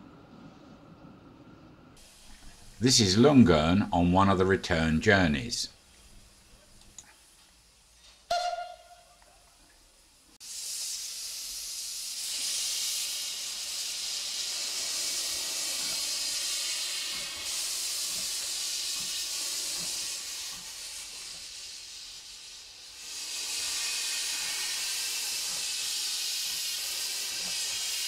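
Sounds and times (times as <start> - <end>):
steam locomotive hissing: 2.0 - 6.8, 7.7 - 28.0.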